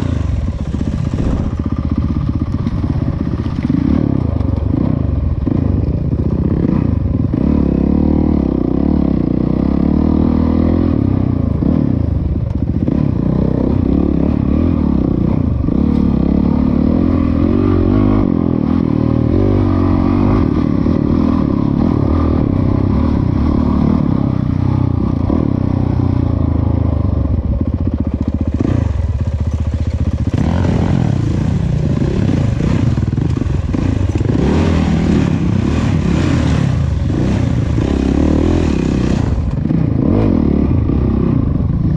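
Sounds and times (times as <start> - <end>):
dirt bike engine revving: 0.0 - 12.1, 12.8 - 26.9, 27.9 - 41.9.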